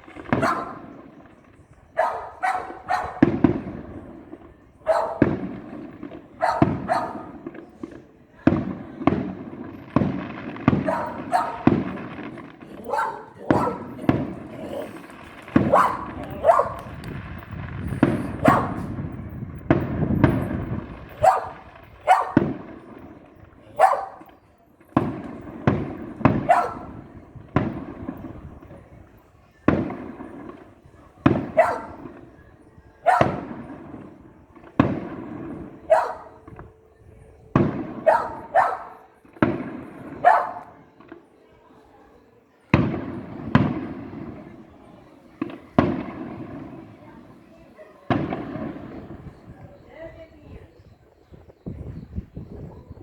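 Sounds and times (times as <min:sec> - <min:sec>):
fireworks bangs: 0:00.0 - 0:41.8, 0:42.6 - 0:53.0.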